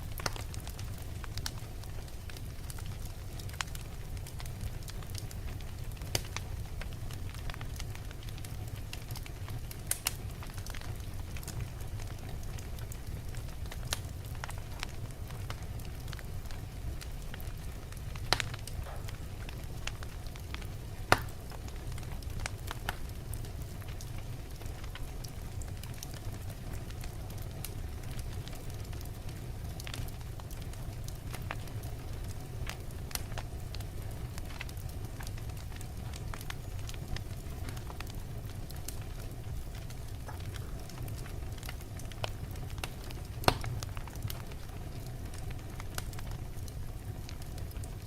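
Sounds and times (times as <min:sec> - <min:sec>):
fire crackling and popping: 0:00.0 - 0:48.0
fire rumbling: 0:00.0 - 0:48.0.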